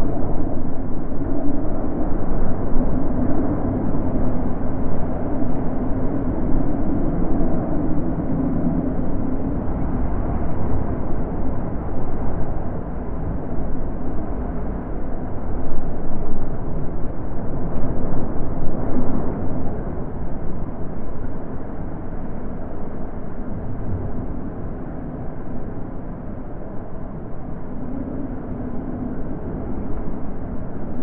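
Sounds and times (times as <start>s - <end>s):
deep wind rumble in gusts: 0.0s - 31.0s.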